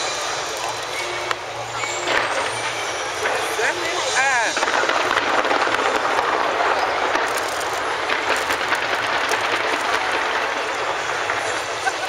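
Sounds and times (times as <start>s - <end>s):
fireworks crackling and popping: 0.0s - 12.0s
steady rushing noise: 0.0s - 12.0s.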